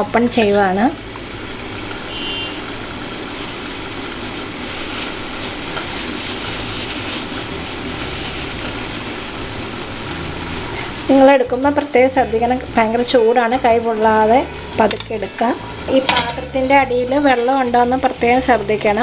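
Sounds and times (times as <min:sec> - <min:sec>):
steamer hissing and rumbling: 0:00.0 - 0:19.0.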